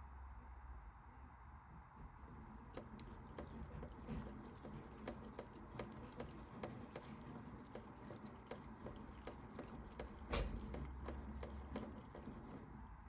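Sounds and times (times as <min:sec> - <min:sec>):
toy washing machine hum: 0:01.8 - 0:13.0.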